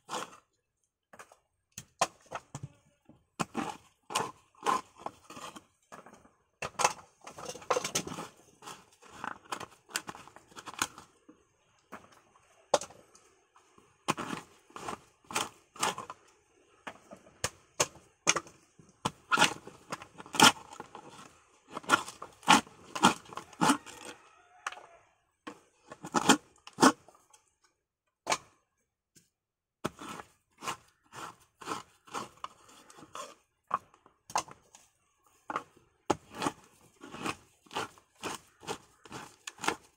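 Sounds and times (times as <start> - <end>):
coconut shell cracking and scraping: 0.0 - 2.7, 3.4 - 28.6, 29.8 - 39.9.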